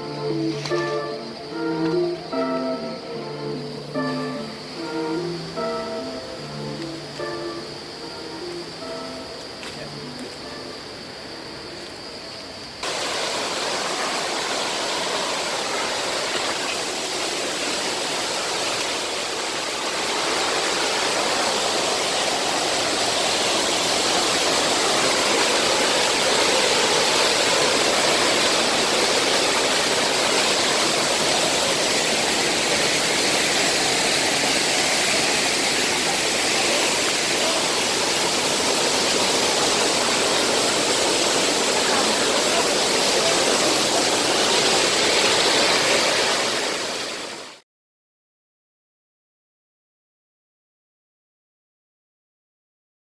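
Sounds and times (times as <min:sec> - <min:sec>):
waterfall rushing: 0:00.0 - 0:11.3, 0:12.8 - 0:47.6.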